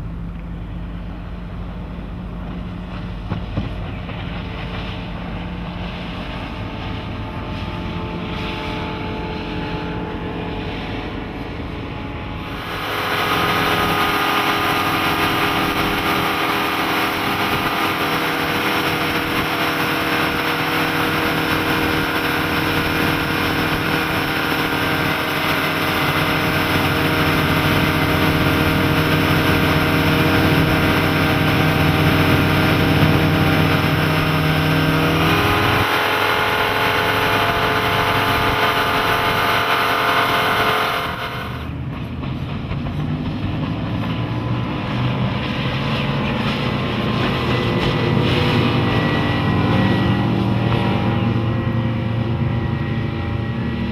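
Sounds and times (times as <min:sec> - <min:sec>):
outboard engine drone: 0:00.0 - 0:53.9
rush of wind and water: 0:00.0 - 0:53.9.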